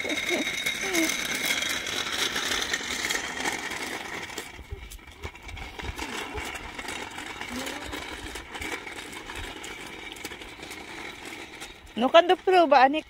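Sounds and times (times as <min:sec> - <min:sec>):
plastic wheels rolling on asphalt: 0:00.0 - 0:13.0.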